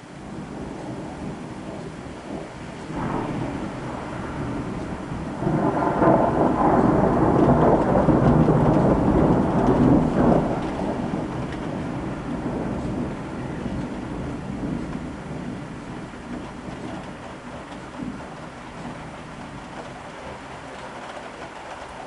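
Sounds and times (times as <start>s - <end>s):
rain falling: 0.0s - 22.0s
thunder rolling: 0.0s - 22.0s.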